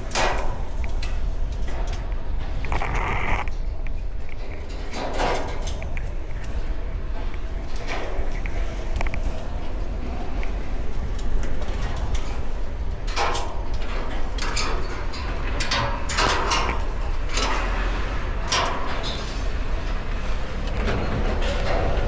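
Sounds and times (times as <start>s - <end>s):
scraping on steel structure: 0.0s - 22.0s
wind rumble on microphone: 0.0s - 22.0s.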